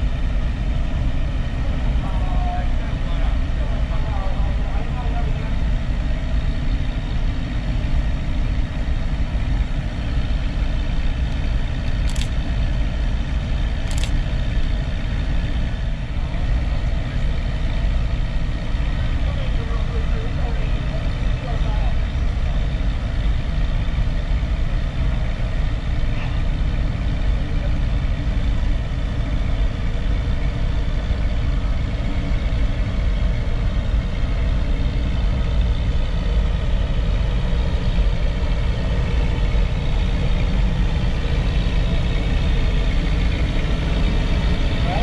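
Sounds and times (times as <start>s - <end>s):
steam locomotive rumble and hiss: 0.0s - 45.0s.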